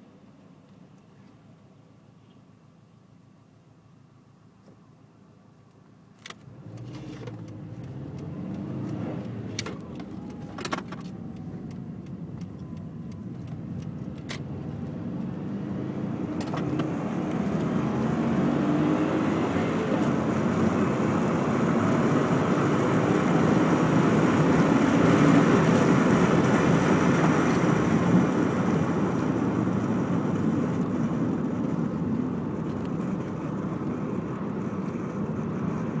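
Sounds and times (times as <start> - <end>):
road and wind noise: 5.5 - 36.0
car engine accelerating: 6.4 - 36.0.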